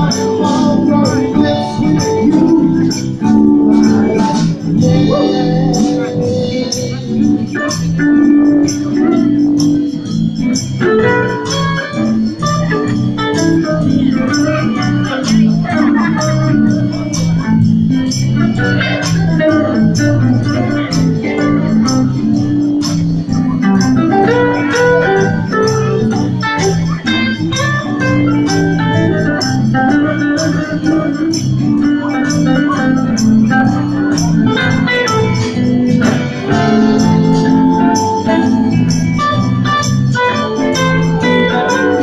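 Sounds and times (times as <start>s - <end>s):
bass line: 0.0s - 42.0s
electric guitar: 0.0s - 42.0s
electric keyboard organ sound: 0.0s - 42.0s.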